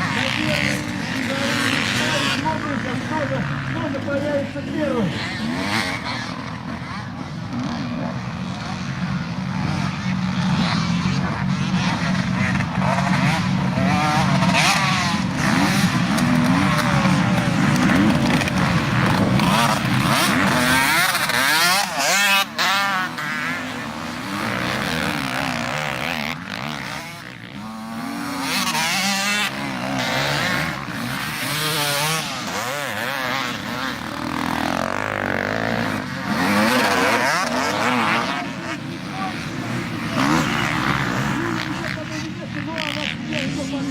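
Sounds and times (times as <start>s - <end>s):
motocross motorcycles revving: 0.0s - 43.9s.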